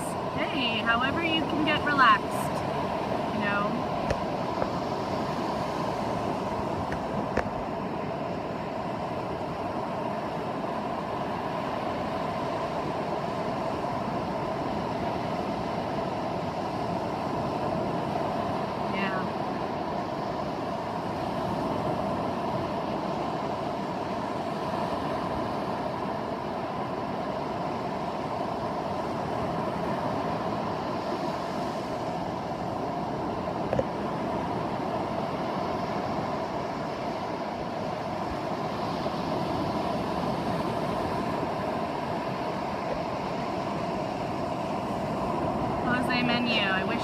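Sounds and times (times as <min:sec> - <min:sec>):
ocean surf: 0:00.0 - 0:47.0
wind: 0:00.0 - 0:47.0.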